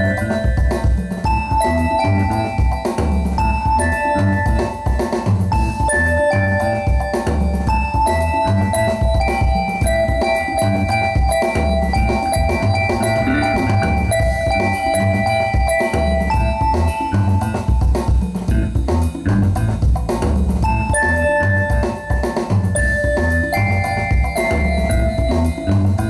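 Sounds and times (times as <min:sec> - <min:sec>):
music with drum and bass beat: 0:00.0 - 0:26.0.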